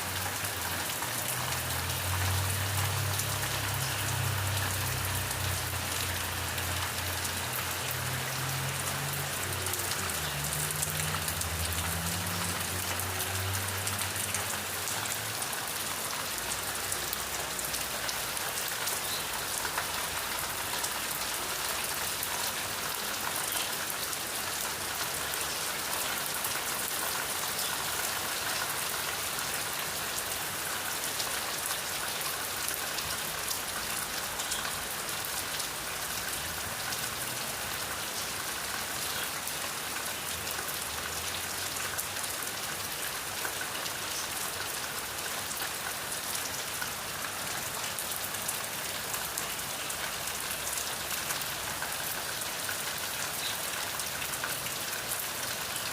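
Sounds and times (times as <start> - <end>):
rain pattering: 0.0 - 55.9.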